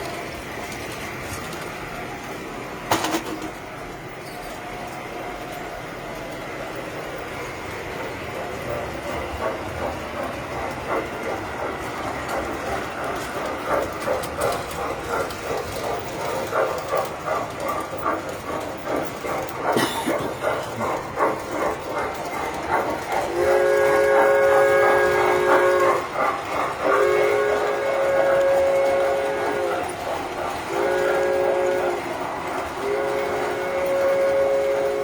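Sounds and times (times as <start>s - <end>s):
train wheels clicking on rails: 0.0s - 35.0s.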